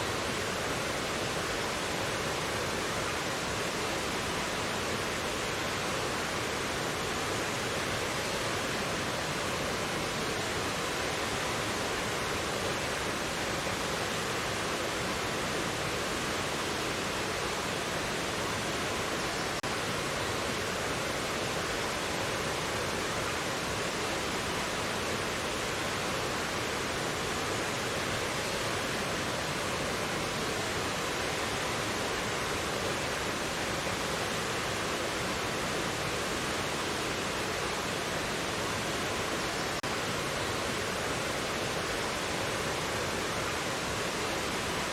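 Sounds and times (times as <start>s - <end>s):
stream rushing over rocks: 0.0s - 44.9s.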